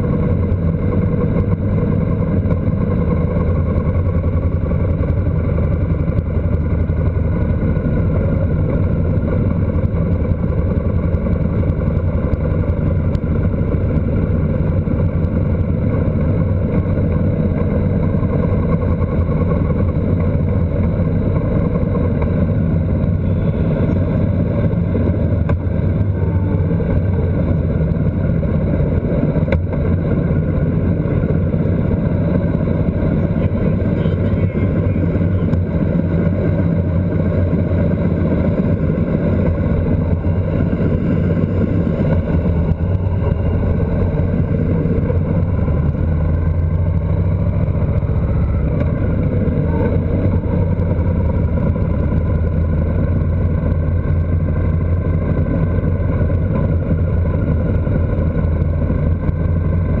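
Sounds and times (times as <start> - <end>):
motorcycle engine cruising: 0.0 - 60.0.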